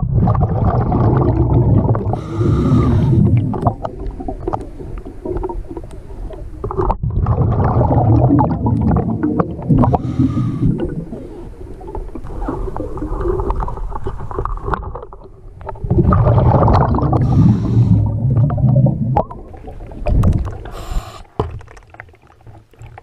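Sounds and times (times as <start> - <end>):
muffled water rumbling: 0.0 - 23.0.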